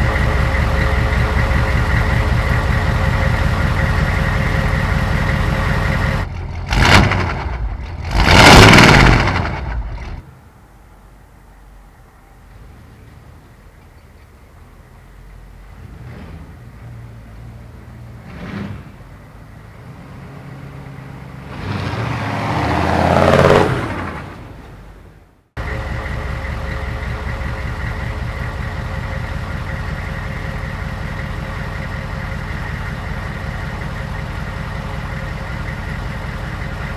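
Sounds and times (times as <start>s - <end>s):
diesel truck engine: 0.0s - 36.9s.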